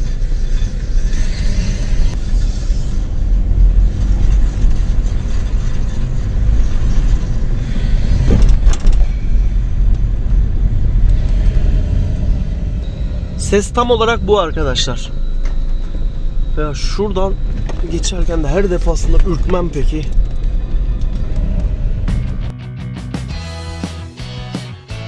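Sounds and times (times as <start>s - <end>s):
metal scraping from a wheel: 0.0s - 22.5s
road and engine rumble: 0.0s - 24.2s.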